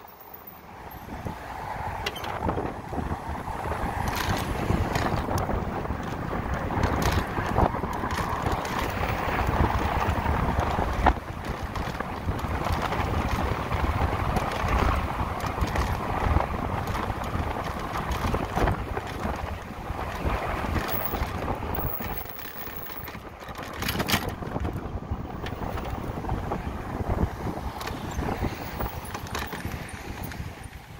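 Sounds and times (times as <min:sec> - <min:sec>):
tyre and road noise: 0:00.0 - 0:30.9
wind buffeting microphone: 0:00.8 - 0:30.9.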